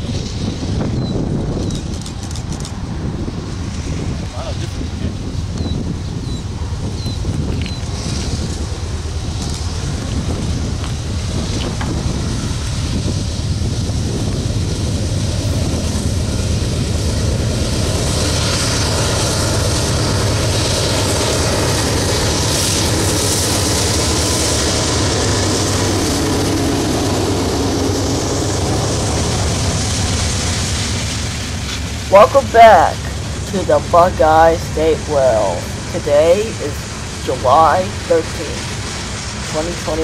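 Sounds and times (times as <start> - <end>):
diesel locomotive rumbling: 0.0 - 40.0
wind on microphone: 0.0 - 40.0.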